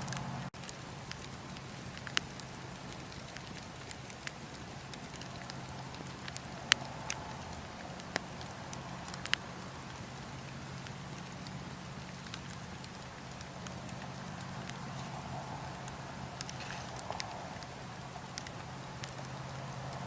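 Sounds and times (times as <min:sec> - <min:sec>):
bonfire crackling and popping: 0:00.0 - 0:20.0
low hiss: 0:00.0 - 0:20.0.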